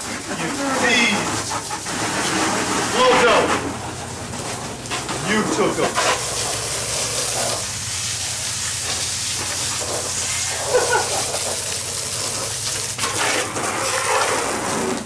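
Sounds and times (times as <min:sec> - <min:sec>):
tyres hissing: 0:00.0 - 0:14.5
wind: 0:00.0 - 0:15.0.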